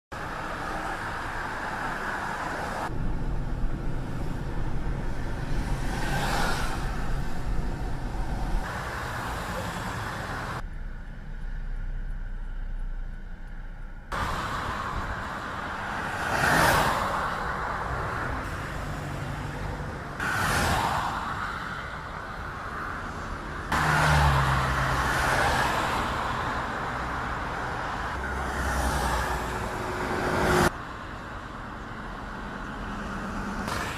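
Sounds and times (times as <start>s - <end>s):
traffic rumble: 0.1s - 33.9s.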